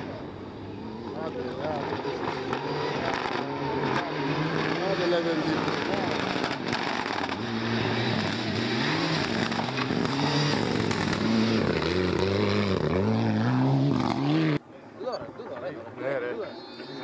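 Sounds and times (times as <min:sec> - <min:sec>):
rally car engine revving: 0:00.0 - 0:14.6.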